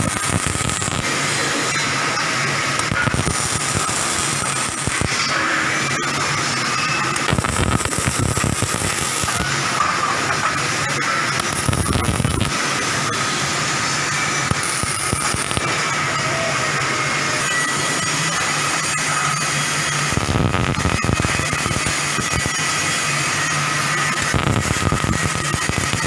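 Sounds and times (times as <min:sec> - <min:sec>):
arc welding crackling hiss: 0:00.0 - 0:06.1, 0:07.2 - 0:09.8, 0:10.6 - 0:16.1, 0:17.4 - 0:26.0.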